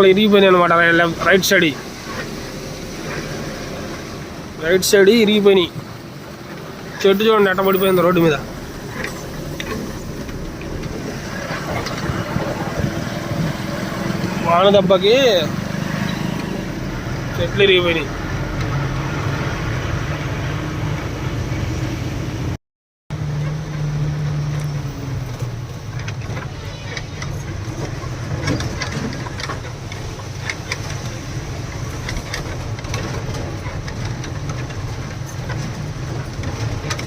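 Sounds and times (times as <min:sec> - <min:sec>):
lorry engine running: 0:00.0 - 0:37.0
rattles and knocks: 0:01.0 - 0:18.0, 0:23.3 - 0:37.0.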